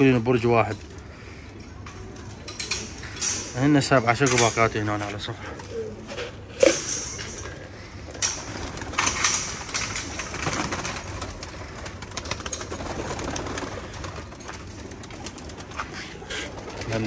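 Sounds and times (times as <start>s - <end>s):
pigeons cooing: 1.0s - 17.0s.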